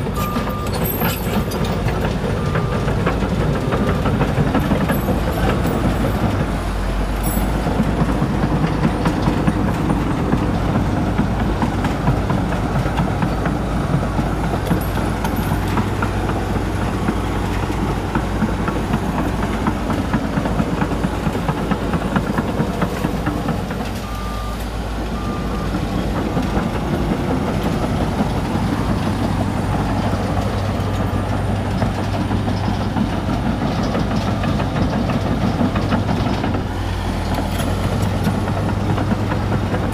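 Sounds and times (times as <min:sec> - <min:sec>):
bulldozer diesel engine: 0:00.0 - 0:39.9
steel tracks clattering: 0:00.0 - 0:39.9.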